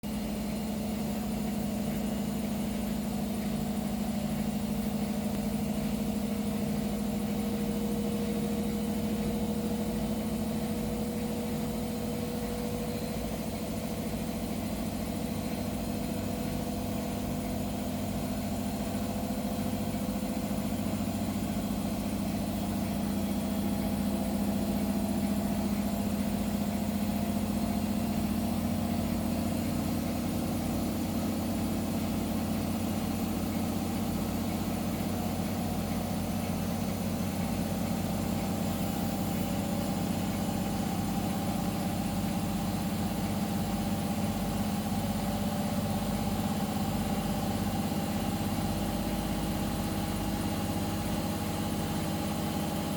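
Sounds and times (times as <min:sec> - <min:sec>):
washing machine humming: 0:00.0 - 0:52.9.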